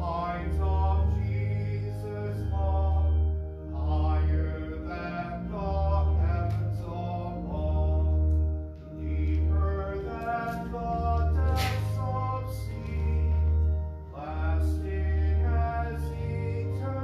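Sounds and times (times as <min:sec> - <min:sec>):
congregation singing a hymn: 0:00.0 - 0:17.0
organ playing: 0:00.0 - 0:17.0.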